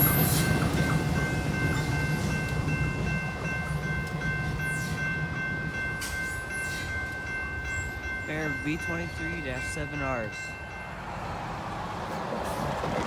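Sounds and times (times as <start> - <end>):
train engine rumble: 0.0 - 13.0.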